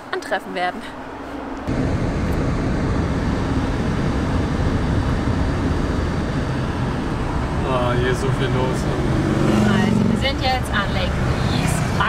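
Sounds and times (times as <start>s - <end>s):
van road and engine noise: 0.0s - 12.0s.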